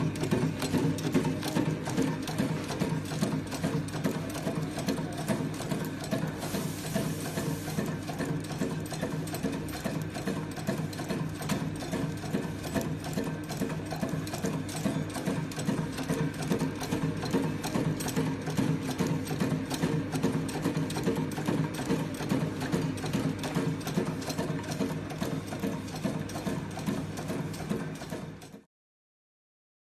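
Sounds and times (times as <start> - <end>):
steady motor hum: 0.0 - 28.4.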